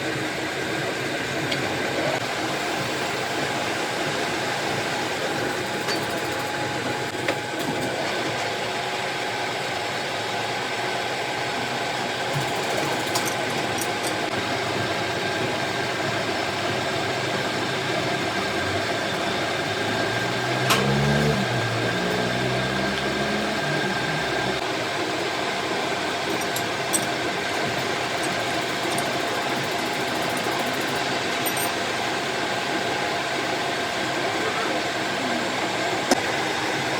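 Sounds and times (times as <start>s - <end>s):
machine motor hum with whine: 0.0s - 36.9s.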